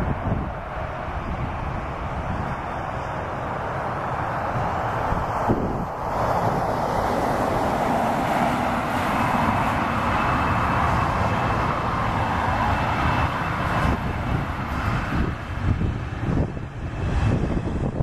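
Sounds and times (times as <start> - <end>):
jet engines running at low thrust: 0.0 - 18.0.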